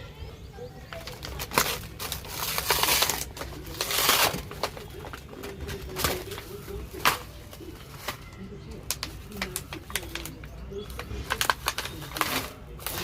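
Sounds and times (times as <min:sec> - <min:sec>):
plastic packaging crinkling: 0:00.8 - 0:13.0.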